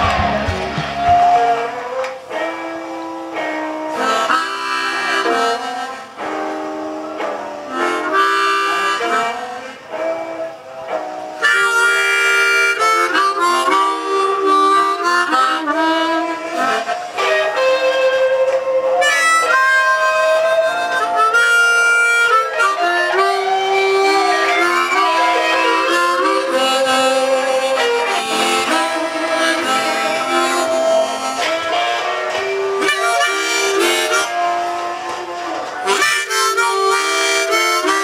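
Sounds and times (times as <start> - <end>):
harmonica playing: 0.0 - 38.0.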